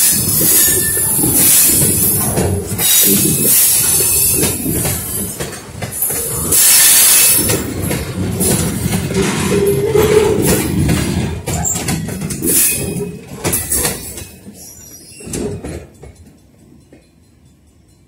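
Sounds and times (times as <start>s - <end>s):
steel wheels clanking on rails: 0.0s - 18.0s.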